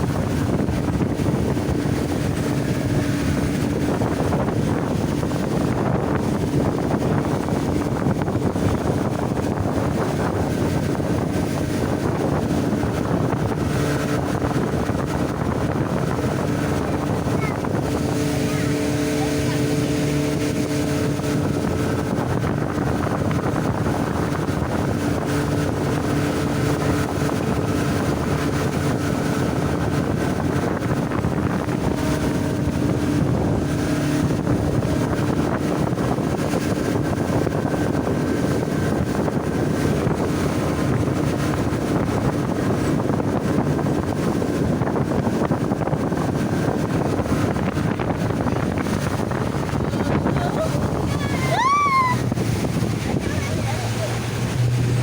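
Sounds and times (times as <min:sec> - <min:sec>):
motorboat engine running: 0:00.0 - 0:55.0
rushing water: 0:00.0 - 0:55.0
wind buffeting microphone: 0:00.0 - 0:55.0.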